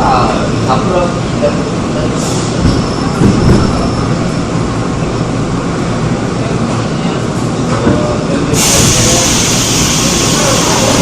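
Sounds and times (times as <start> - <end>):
electric train wheels on rail: 1.6 - 11.0.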